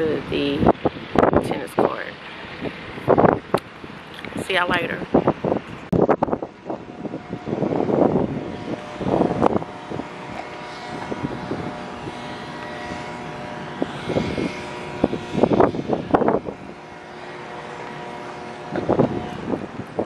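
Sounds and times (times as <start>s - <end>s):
engine drone: 0.0s - 20.0s
wind rumble on microphone: 0.0s - 20.0s.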